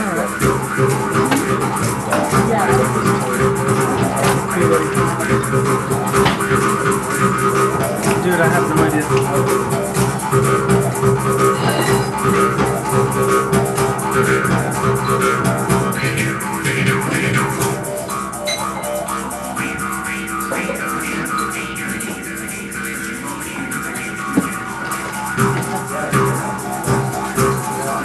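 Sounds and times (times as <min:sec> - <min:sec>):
jaw harps droning: 0:00.0 - 0:28.0
shaker and percussion rhythm: 0:00.0 - 0:28.0.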